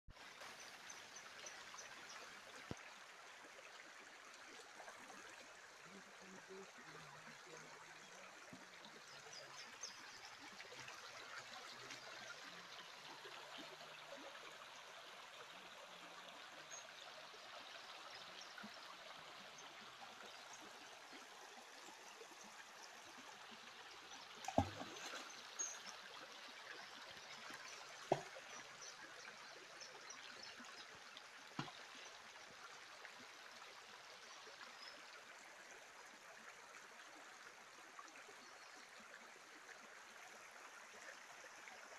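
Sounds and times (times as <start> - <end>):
faint flowing stream: 0.1 - 41.9.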